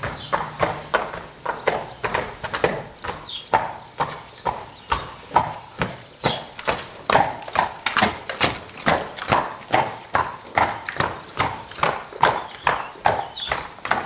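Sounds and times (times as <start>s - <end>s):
horse hooves trotting on concrete: 0.0s - 14.0s.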